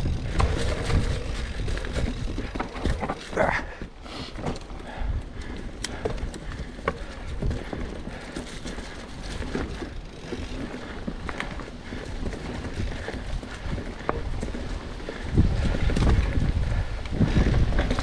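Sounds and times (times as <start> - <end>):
bike chain rattling: 0.0 - 18.0
bike tyres rolling on dirt: 0.0 - 18.0.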